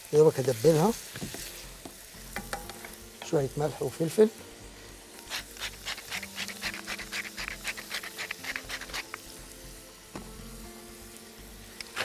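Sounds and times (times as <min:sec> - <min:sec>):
seafood sizzling in a pan: 0:00.0 - 0:12.0
soft background music: 0:00.0 - 0:12.0.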